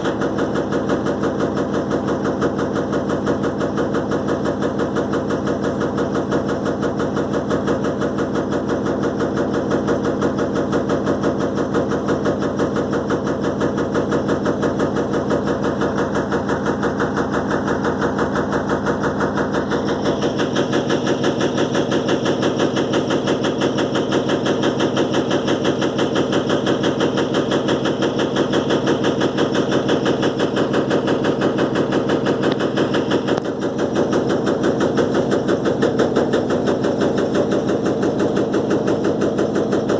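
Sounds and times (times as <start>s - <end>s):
washing machine spin rattling: 0.0s - 39.9s.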